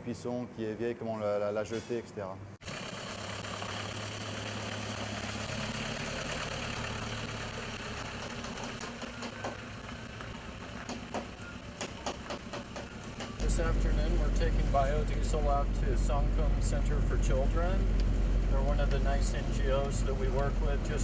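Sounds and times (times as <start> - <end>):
truck engine driving off: 2.6 - 21.0.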